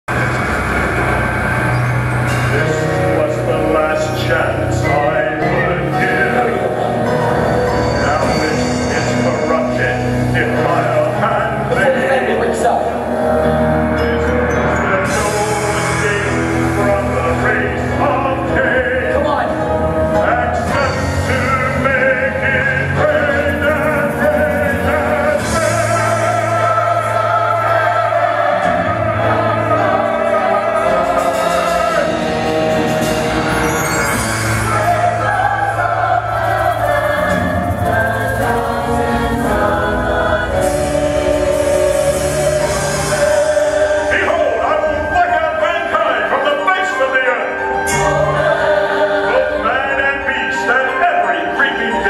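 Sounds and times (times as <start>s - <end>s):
instrumental accompaniment: 0.1s - 52.0s
mixed choir singing: 0.1s - 52.0s.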